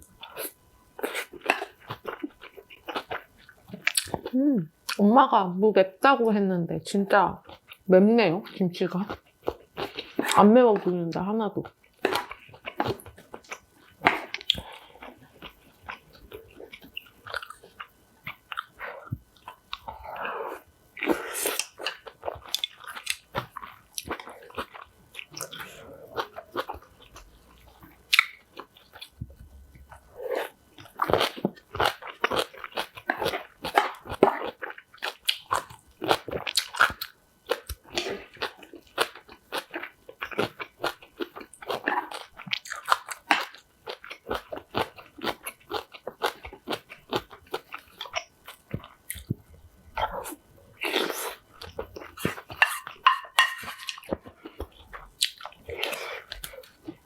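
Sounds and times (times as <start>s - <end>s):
crunching and chewing kimchi: 0.0s - 5.0s, 7.2s - 57.0s.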